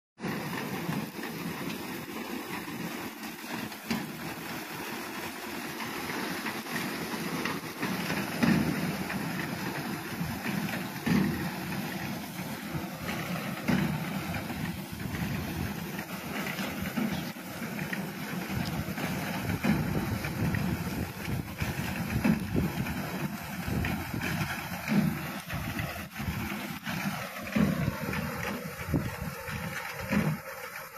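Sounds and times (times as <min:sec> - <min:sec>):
engine running: 0:00.2 - 0:30.9.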